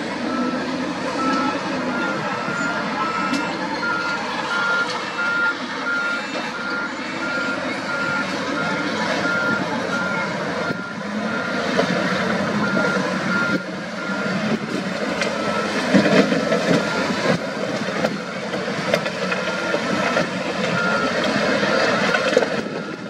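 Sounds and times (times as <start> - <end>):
heavy diesel engines under load: 0.0 - 23.0
reversing alarm beeps: 0.2 - 11.7, 12.5 - 14.6, 15.2 - 17.3, 19.4 - 23.0.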